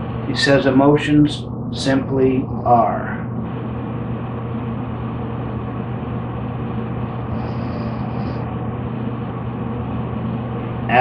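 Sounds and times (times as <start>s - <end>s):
mechanical drone: 0.0s - 11.0s.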